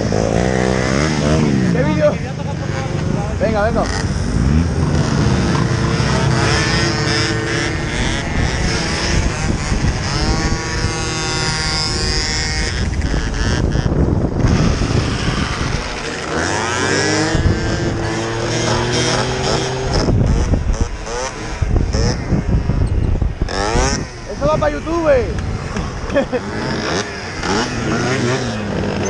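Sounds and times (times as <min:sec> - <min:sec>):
scooter engines revving: 0:00.0 - 0:29.0
wind and road noise rumble: 0:00.0 - 0:29.0.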